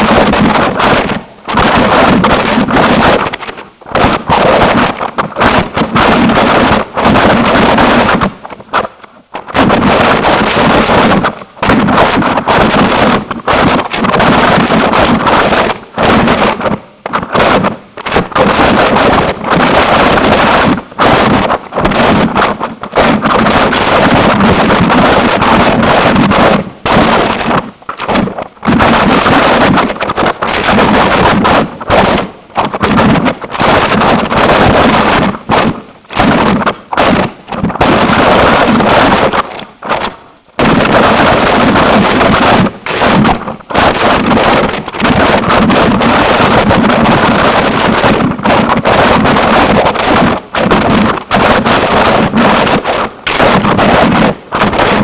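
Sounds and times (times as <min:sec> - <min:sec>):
harsh distorted noise music: 0:00.0 - 0:55.0.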